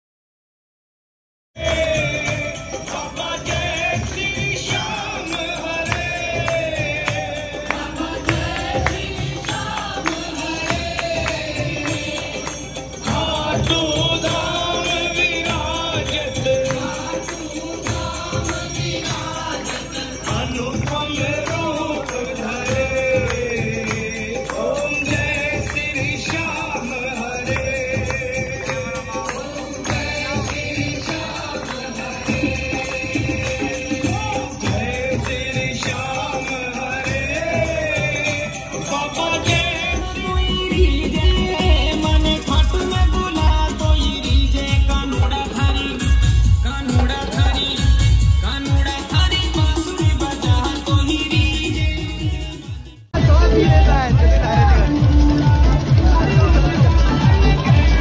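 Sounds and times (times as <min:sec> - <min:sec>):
jingling percussion: 0:01.6 - 0:58.0
steady drum beat: 0:01.6 - 0:58.0
voices singing together: 0:01.6 - 0:58.0.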